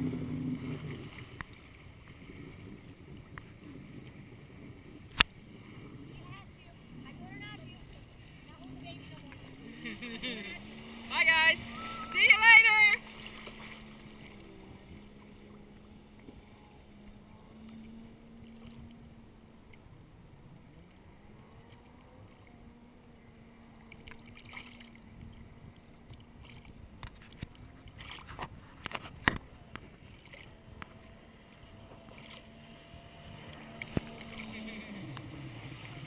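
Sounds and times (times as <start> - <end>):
water splashing: 0.0 - 20.0, 20.6 - 36.0
distant jet ski engine droning: 0.0 - 36.0.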